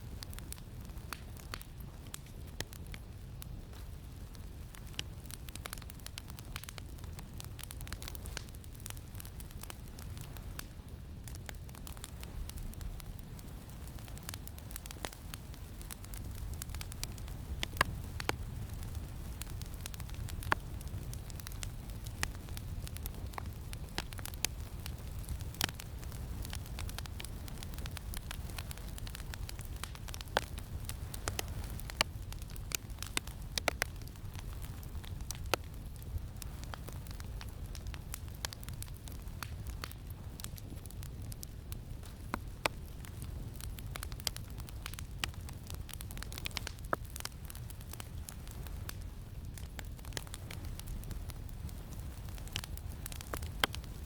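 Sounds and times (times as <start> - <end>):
campfire crackling: 0.0 - 54.0
sharp fire pops: 0.1 - 54.0.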